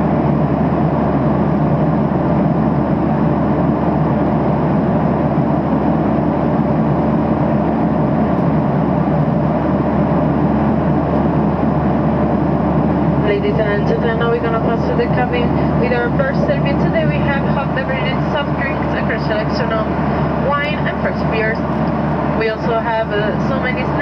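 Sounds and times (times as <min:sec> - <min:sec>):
airplane cabin engine roar: 0:00.0 - 0:24.0.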